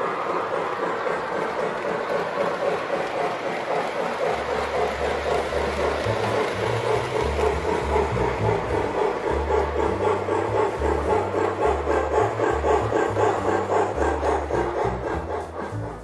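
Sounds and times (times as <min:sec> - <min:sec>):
model trains rumbling and rattling: 0:00.0 - 0:16.0.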